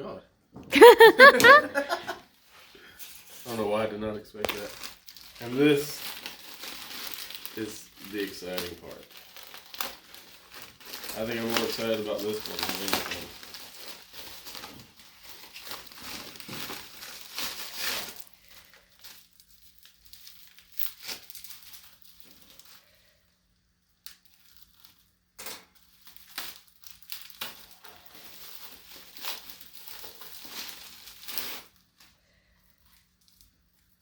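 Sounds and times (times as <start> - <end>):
packaging crinkling and tearing: 3.1 - 34.0.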